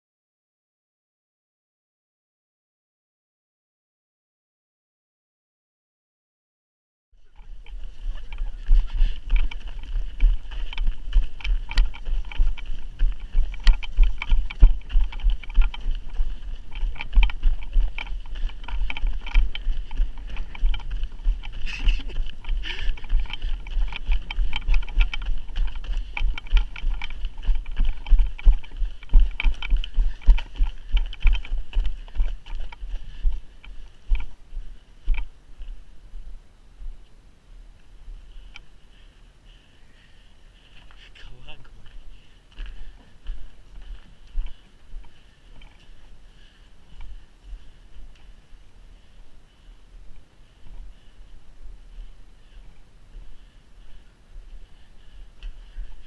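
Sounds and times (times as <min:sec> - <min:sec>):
running footsteps crunching on snow: 0:07.2 - 0:56.0.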